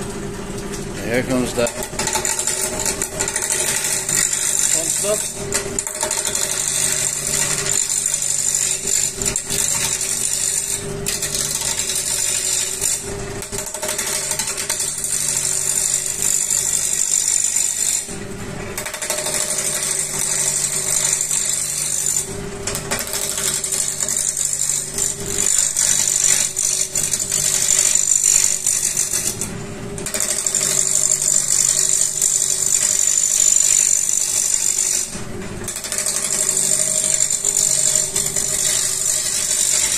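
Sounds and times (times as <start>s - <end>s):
lathe humming: 0.9s - 18.1s, 18.8s - 39.9s
lathe tool scraping wood: 1.0s - 18.1s, 18.8s - 39.9s.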